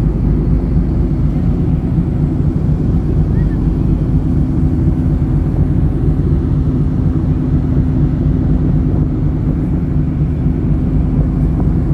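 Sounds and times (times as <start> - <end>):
ship engines humming: 0.0 - 11.9.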